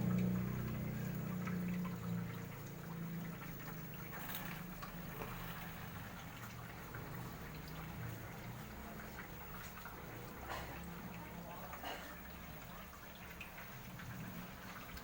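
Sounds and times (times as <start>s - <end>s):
pump humming: 0.0s - 15.0s
water trickling and splashing: 0.0s - 15.0s.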